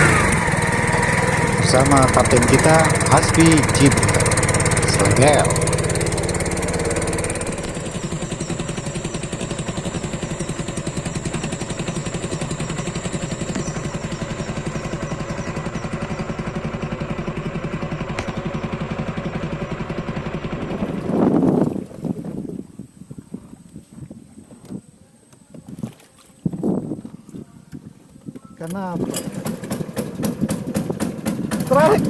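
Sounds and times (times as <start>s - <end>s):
small boat engine running: 0.0s - 32.0s.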